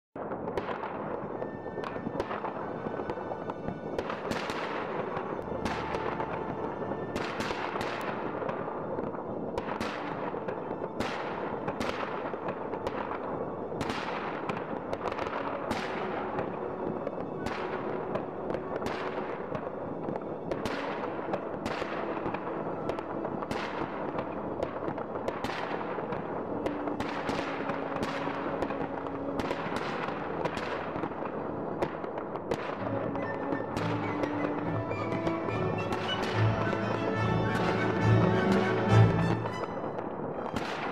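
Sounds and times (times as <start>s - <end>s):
fireworks crackling and rumbling: 0.2s - 40.9s
sharp firework bangs: 3.9s - 37.0s, 37.6s - 40.9s.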